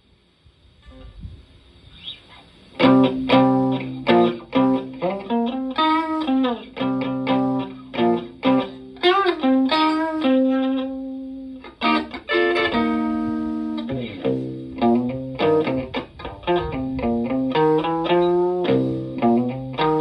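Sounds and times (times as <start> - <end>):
fuzz electric guitar lead: 2.7 - 20.0.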